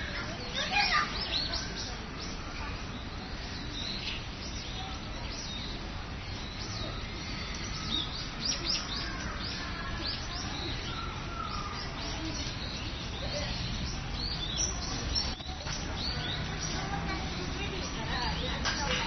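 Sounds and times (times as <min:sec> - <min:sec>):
small birds chirping busily: 0:00.0 - 0:19.0.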